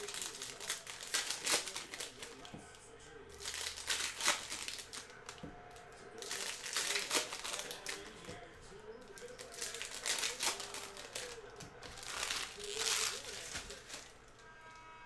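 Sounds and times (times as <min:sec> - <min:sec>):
plastic wrappers crinkling: 0:00.0 - 0:14.4.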